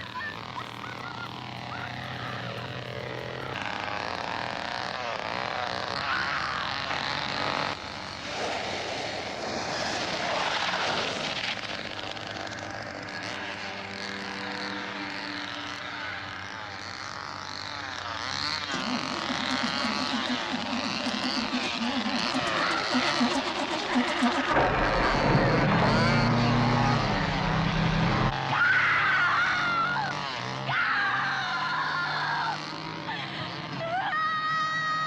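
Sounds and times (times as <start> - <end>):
motor running: 0.0 - 35.0.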